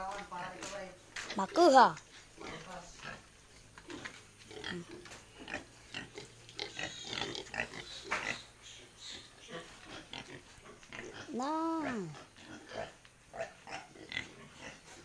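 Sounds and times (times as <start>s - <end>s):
piglets grunting: 2.4s - 15.0s.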